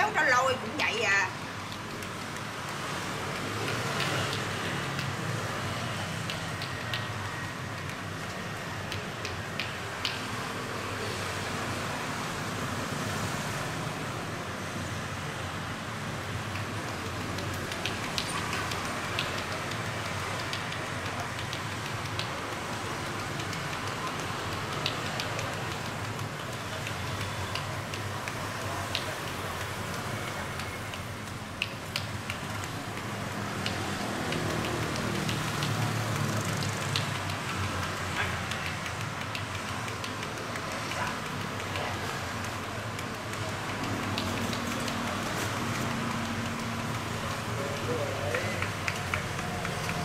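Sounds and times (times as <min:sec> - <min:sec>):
street traffic: 0:00.0 - 0:50.0
short clicks and taps: 0:00.7 - 0:10.6, 0:16.4 - 0:50.0.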